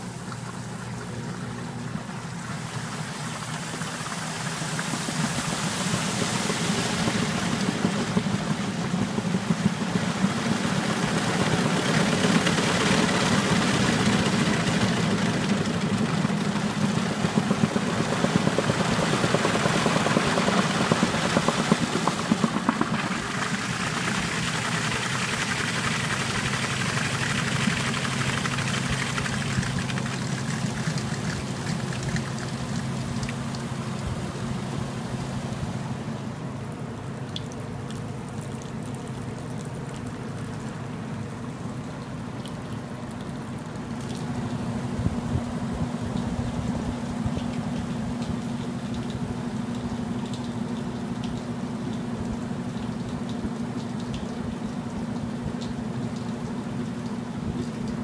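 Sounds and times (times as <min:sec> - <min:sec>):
washer motor humming: 0:00.0 - 0:38.4, 0:39.2 - 0:58.0
water rushing off spinning tub: 0:00.0 - 0:58.0.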